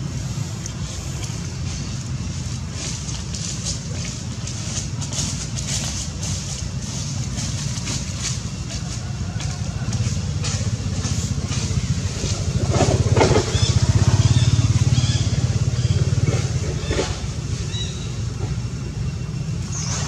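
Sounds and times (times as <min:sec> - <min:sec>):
small engine running: 0:00.3 - 0:20.0.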